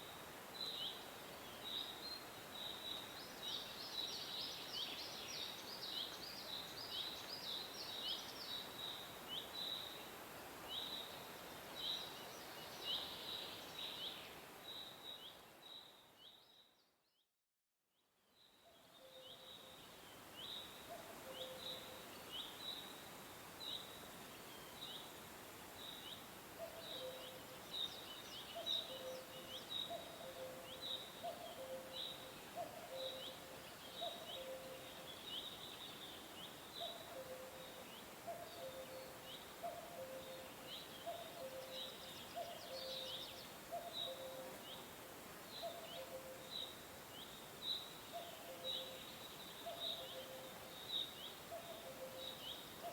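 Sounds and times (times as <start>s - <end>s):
songbirds chirping: 0.0s - 17.2s, 18.3s - 52.9s.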